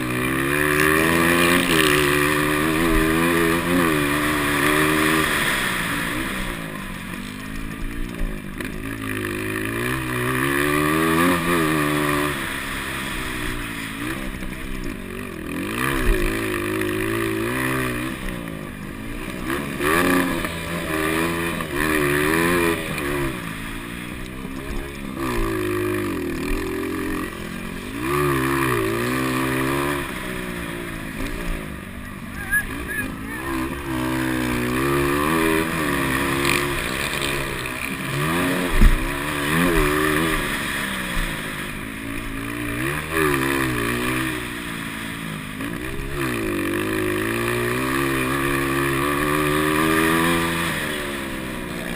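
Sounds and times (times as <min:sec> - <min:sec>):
motocross engines revving: 0:00.0 - 0:51.9.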